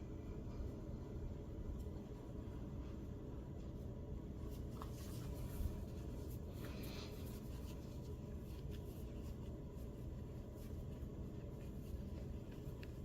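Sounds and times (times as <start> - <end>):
low steady hum: 0.0 - 13.0
yarn scratching and rustling: 1.8 - 13.0.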